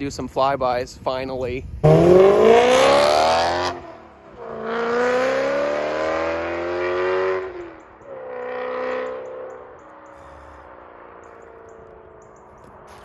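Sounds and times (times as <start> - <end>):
car exhaust accelerating hard: 1.8 - 13.0.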